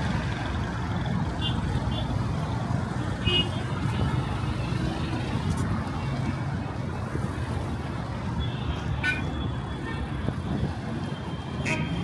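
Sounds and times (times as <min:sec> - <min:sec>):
motor vehicles rumbling past: 0:00.0 - 0:12.0.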